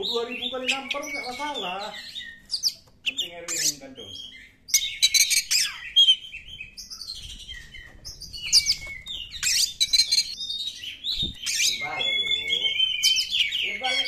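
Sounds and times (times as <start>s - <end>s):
songbird singing varied whistles: 0.0s - 14.0s.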